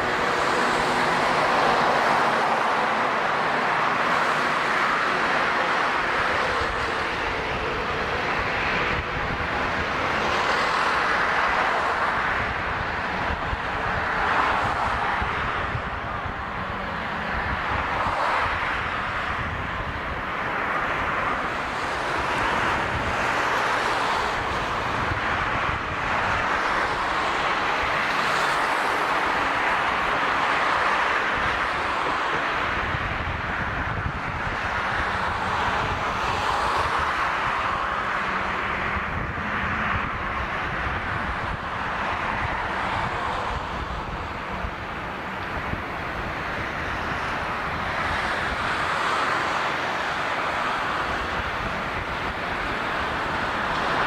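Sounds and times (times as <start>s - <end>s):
aircraft engine roar: 0.0s - 54.0s.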